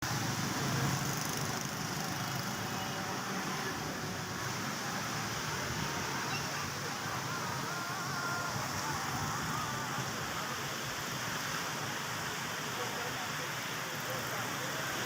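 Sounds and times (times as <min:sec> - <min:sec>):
rain falling: 0:00.0 - 0:15.0
street traffic hum: 0:00.0 - 0:15.0.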